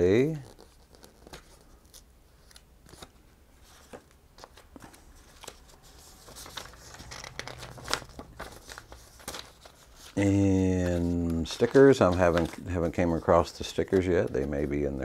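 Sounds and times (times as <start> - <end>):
paper and card rustling: 0.2 - 15.0.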